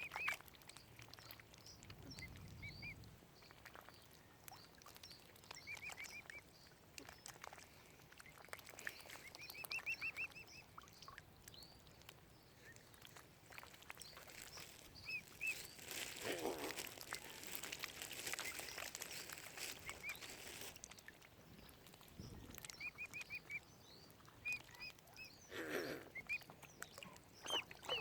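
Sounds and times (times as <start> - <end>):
cygnets peeping: 1.2 - 7.4, 8.2 - 20.8, 21.6 - 28.0.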